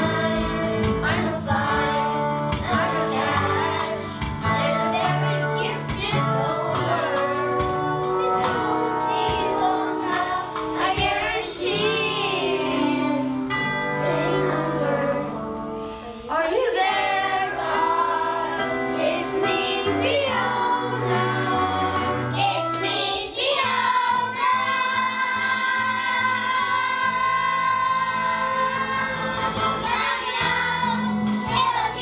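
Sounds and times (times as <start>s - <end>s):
children singing a show tune: 0.0s - 15.4s, 16.3s - 32.0s
instrumental accompaniment: 0.0s - 32.0s.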